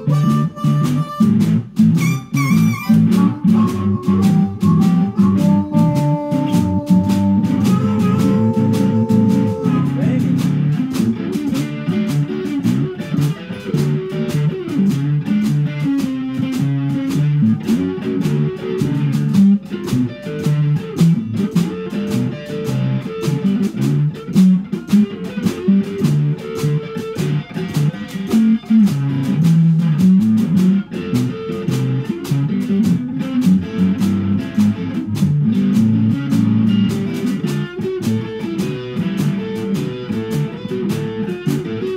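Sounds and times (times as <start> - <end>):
blues guitar: 0.0 - 41.9
drum kit beat: 0.0 - 41.9.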